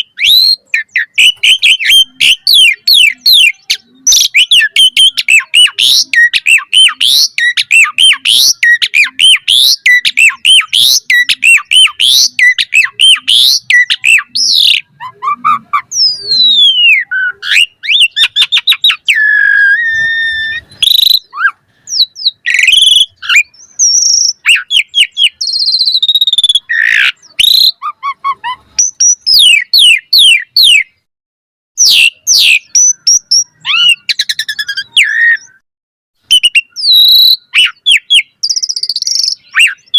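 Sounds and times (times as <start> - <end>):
starling singing: 0.0 - 31.1, 31.8 - 35.6, 36.3 - 39.9.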